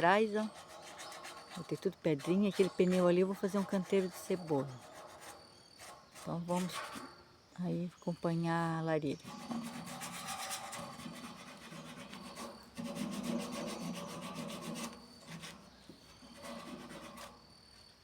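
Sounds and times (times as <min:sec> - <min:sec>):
sanding rusty iron: 0:00.0 - 0:07.1, 0:09.2 - 0:17.6.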